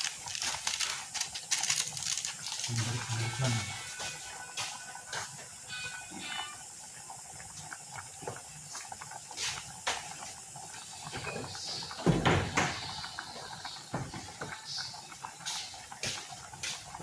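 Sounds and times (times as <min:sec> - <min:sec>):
stew simmering: 0:00.0 - 0:17.0.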